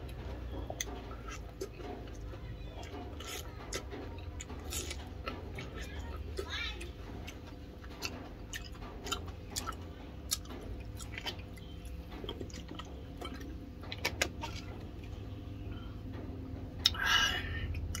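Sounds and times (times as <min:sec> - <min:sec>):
chewing: 0:00.0 - 0:15.3, 0:17.7 - 0:18.0.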